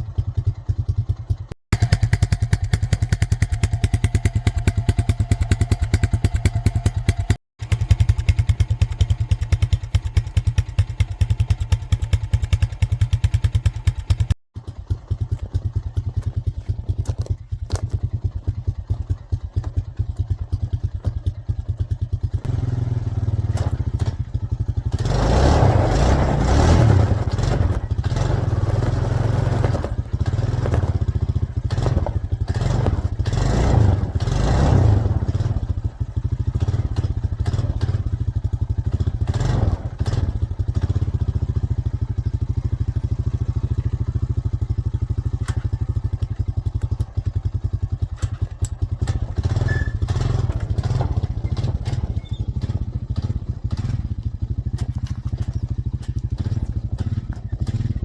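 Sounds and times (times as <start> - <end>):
quad engine revving under load: 0.0 - 58.0.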